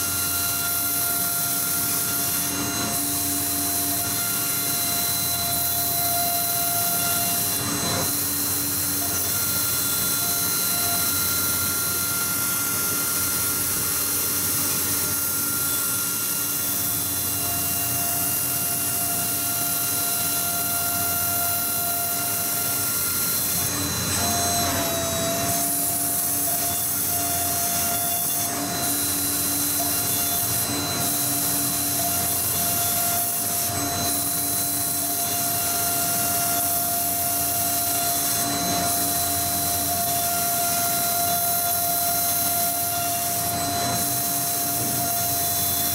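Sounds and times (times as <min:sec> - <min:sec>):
milling machine spindle whine: 0:00.0 - 0:45.9.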